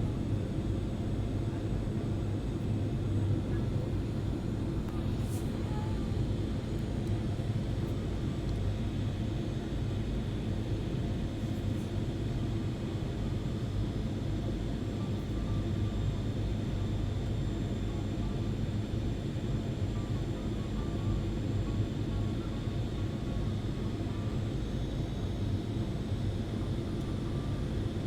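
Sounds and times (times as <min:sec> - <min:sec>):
jet airliner cabin rumble: 0:00.0 - 0:28.0.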